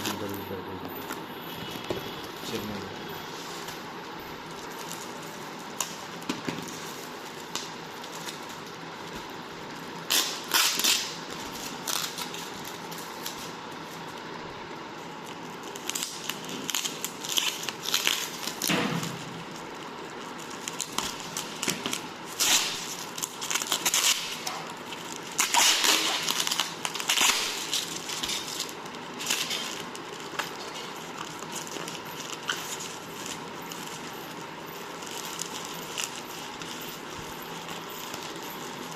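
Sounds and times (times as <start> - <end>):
packaging crinkling and rustling: 0.0 - 38.9
steady background hiss: 0.0 - 38.9.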